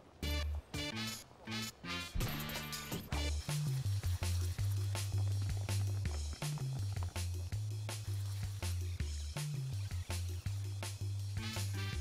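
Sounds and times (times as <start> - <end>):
background music with bass line: 0.2 - 12.0.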